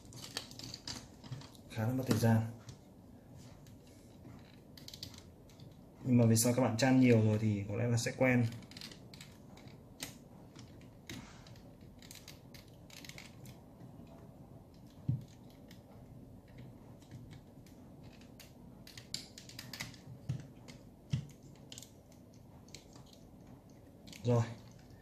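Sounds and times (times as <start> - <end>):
plastic parts clicking: 0.0 - 2.2, 3.6 - 5.8, 8.4 - 15.9, 16.5 - 25.0.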